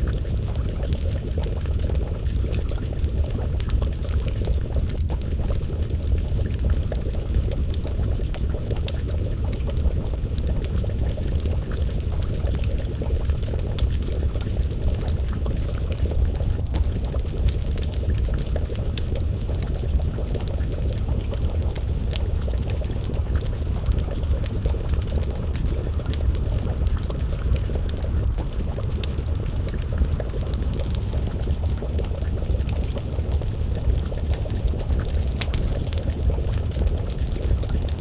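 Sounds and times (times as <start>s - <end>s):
stew simmering in a pot: 0.0s - 38.0s
wood fire crackling and popping: 0.0s - 38.0s.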